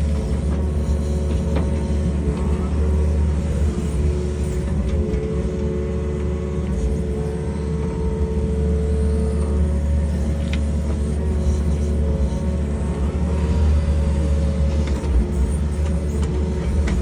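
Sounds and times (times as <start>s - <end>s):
excavator engine rumbling: 0.0s - 17.0s
hydraulics whining: 0.0s - 17.0s.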